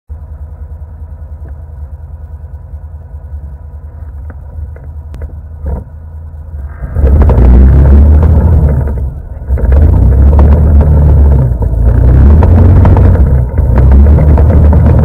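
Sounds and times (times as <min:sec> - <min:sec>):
atv engine running: 0:00.1 - 0:15.0.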